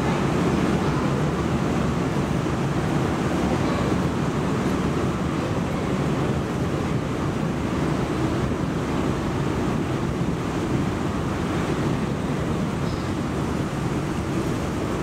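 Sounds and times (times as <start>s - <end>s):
moving walkway rumbling: 0.0s - 15.0s.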